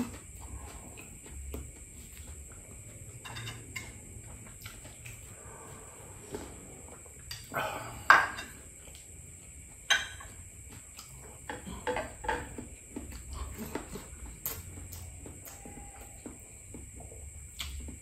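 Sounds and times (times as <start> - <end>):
chewing and mouth sounds: 0.0 - 7.7, 8.5 - 18.0.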